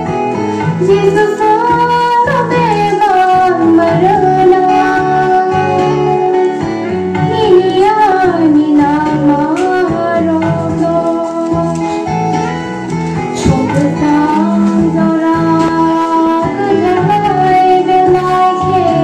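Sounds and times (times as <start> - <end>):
instrumental music with low beat: 0.0 - 19.0
woman singing into microphone: 0.0 - 19.0.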